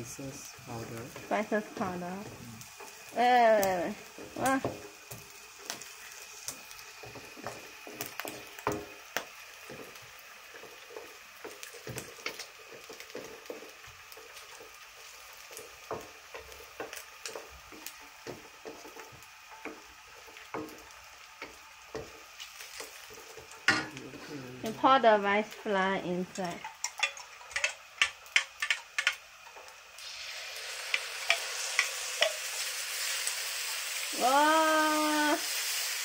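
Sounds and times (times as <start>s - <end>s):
food sizzling in a wok: 0.0s - 36.0s.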